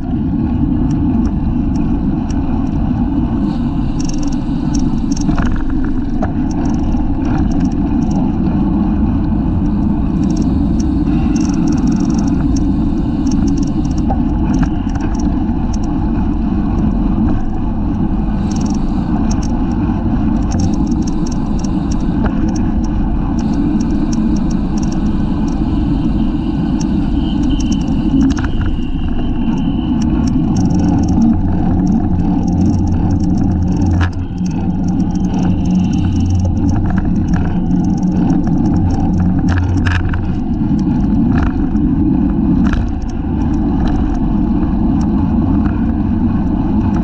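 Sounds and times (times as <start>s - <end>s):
bike clicks and rattles: 0.0s - 47.0s
wind rushing over microphone: 0.0s - 47.0s.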